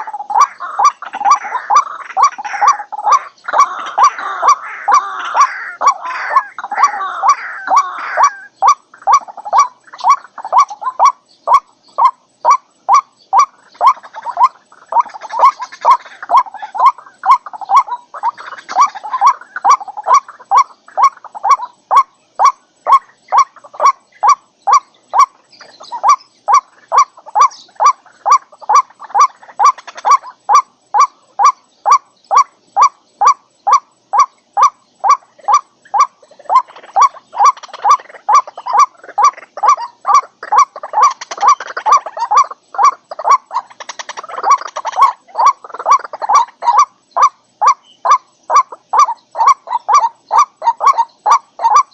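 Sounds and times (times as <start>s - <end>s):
bubbling bird chatter: 0.0s - 51.9s.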